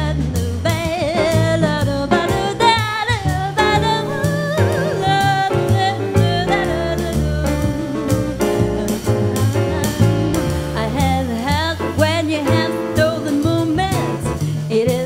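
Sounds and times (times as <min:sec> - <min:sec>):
drums: 0:00.0 - 0:15.0
piano: 0:00.0 - 0:15.0
walking double bass: 0:00.0 - 0:15.0
woman singing: 0:00.0 - 0:15.0.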